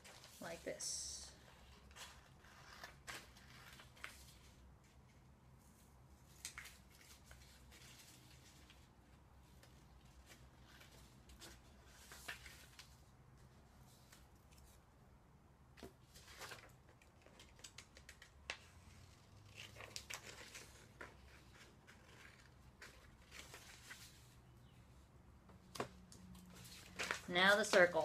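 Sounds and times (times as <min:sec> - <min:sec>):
paper rustling: 0:00.0 - 0:00.7, 0:01.4 - 0:14.8, 0:15.8 - 0:24.4, 0:25.7 - 0:28.0.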